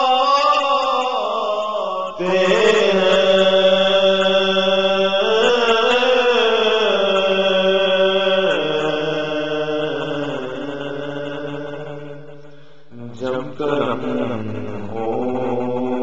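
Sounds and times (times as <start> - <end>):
man chanting: 0.0 - 12.1, 12.9 - 16.0.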